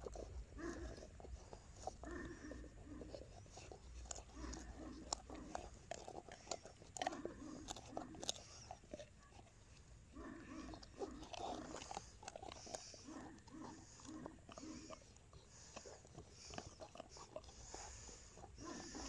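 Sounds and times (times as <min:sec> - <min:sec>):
dog chewing a bone: 0:00.0 - 0:19.0.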